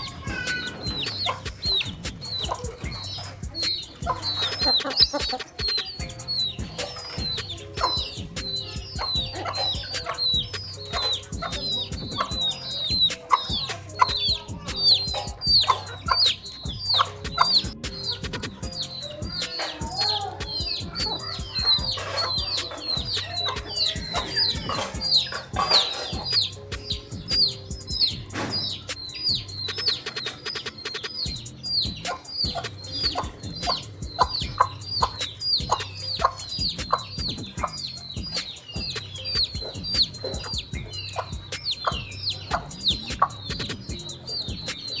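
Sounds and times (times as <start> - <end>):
chicks peeping: 0.0 - 45.0
hen clucking: 0.0 - 45.0.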